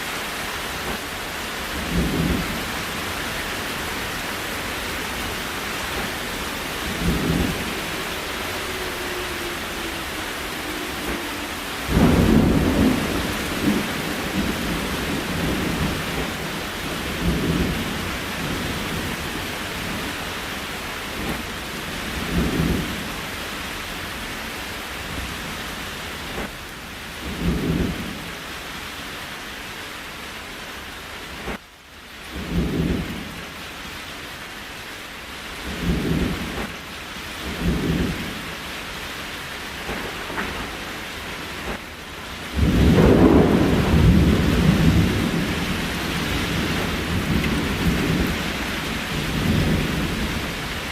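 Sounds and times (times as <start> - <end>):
rain hiss: 0.0 - 50.9.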